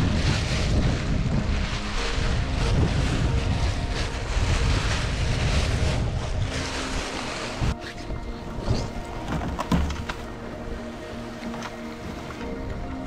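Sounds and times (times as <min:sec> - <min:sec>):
sail cloth rustling: 0:00.0 - 0:13.0
sea rushing along hull: 0:00.0 - 0:13.0
wind buffeting microphone: 0:00.0 - 0:13.0.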